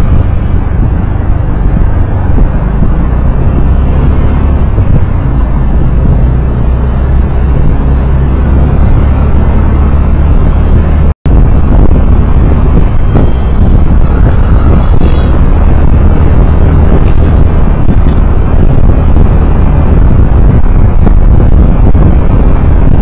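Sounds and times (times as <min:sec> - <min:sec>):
road vehicle rumble: 0:00.0 - 0:23.0
wind buffeting microphone: 0:00.0 - 0:23.0.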